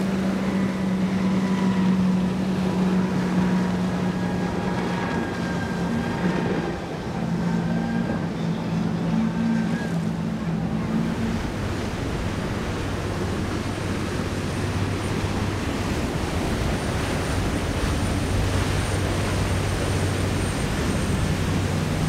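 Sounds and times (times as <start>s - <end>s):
outboard engines running: 0.0s - 22.0s
water rushing: 0.0s - 22.0s
wind: 0.0s - 22.0s.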